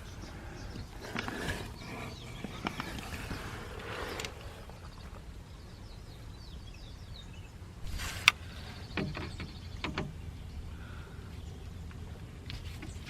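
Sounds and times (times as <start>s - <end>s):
birds chirping faintly: 0.0s - 13.0s
outdoor background noise: 0.0s - 13.0s.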